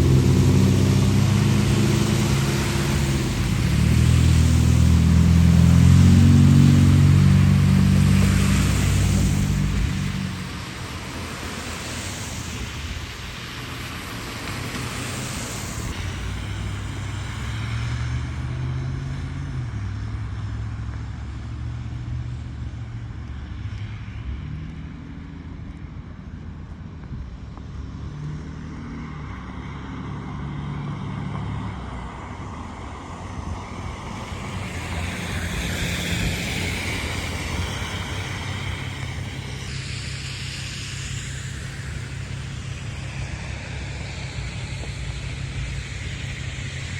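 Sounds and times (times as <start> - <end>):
tyre hiss of passing vehicles: 0.0 - 46.9
vehicle engines rumbling: 0.0 - 46.9.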